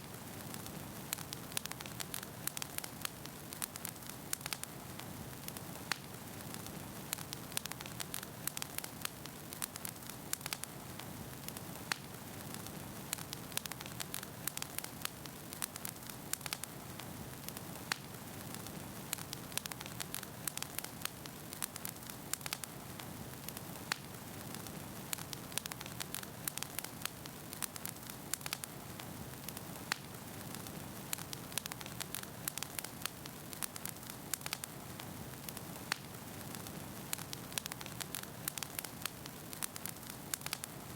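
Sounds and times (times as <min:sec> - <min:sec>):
logs crackling and popping: 0:00.0 - 0:40.9
wood fire burning: 0:00.0 - 0:40.9.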